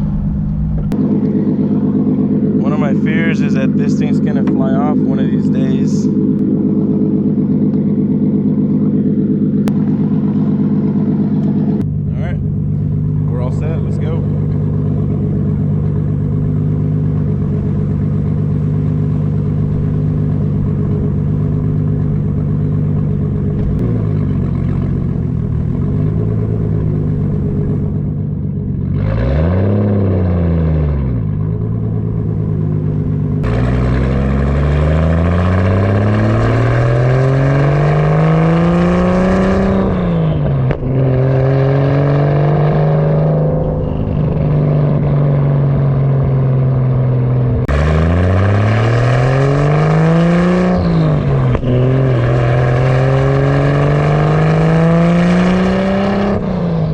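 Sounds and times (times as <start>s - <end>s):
car engine revving and accelerating: 0.0s - 56.9s.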